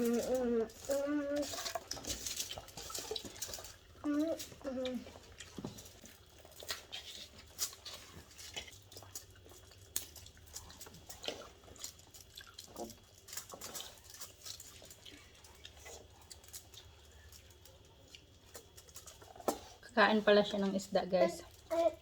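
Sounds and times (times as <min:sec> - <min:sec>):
food clicks and crackles: 0:00.0 - 0:22.0
people chewing: 0:00.0 - 0:22.0.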